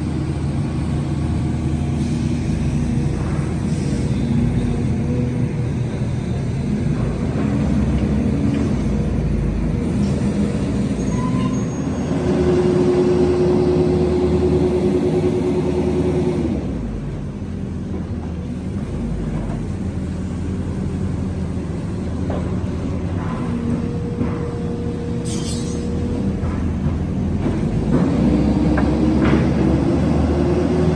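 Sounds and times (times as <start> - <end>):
diesel-like engine drone: 0.0 - 30.9.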